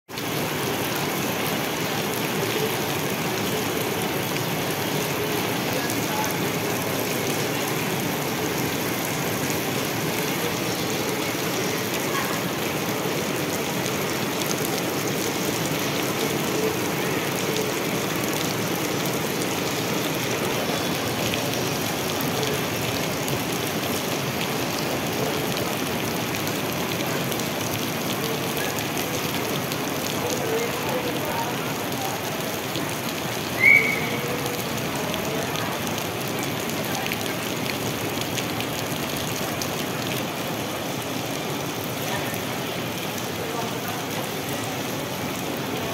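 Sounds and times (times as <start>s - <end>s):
heavy rain on wet ground: 0.1s - 45.9s.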